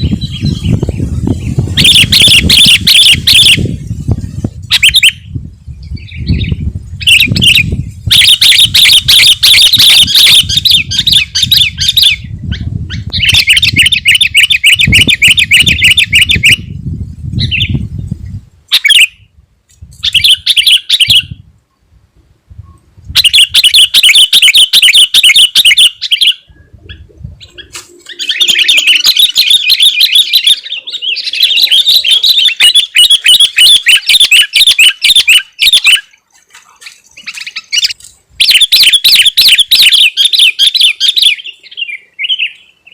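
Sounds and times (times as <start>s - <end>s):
bulbul singing: 0.0s - 16.8s, 17.4s - 19.3s, 23.2s - 36.2s, 36.8s - 42.9s.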